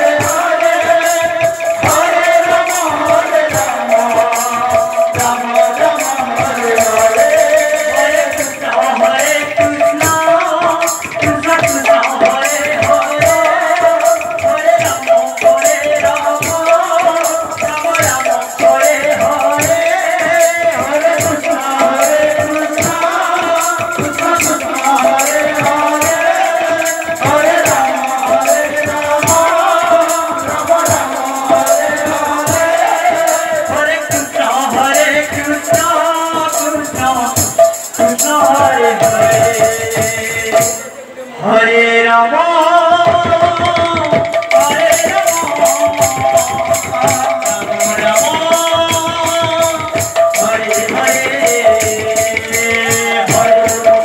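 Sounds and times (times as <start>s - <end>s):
drum beat: 0.0s - 40.9s, 42.9s - 54.0s
jingling hand percussion: 0.0s - 41.1s, 42.6s - 54.0s
voices singing: 0.0s - 54.0s.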